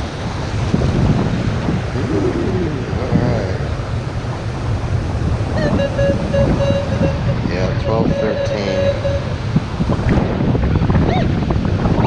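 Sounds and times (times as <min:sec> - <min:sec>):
beach surf: 0:00.0 - 0:12.0
wind buffeting microphone: 0:00.0 - 0:12.0.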